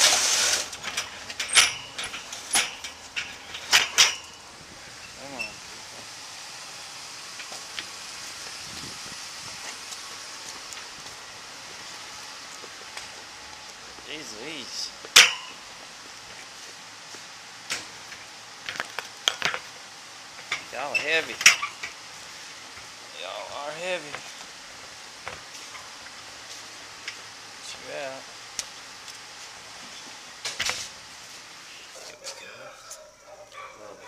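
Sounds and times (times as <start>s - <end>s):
steady hiss: 0.0s - 33.3s.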